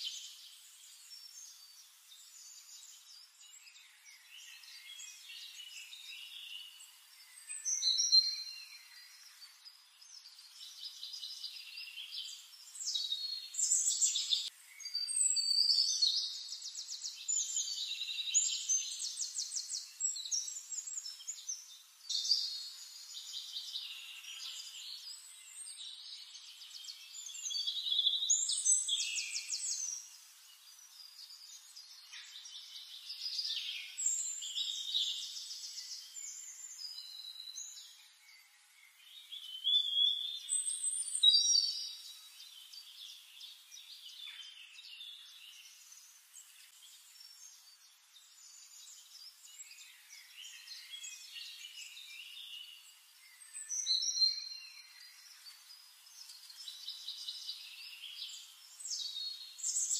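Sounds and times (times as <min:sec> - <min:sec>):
forest birds singing: 0:00.0 - 0:59.9.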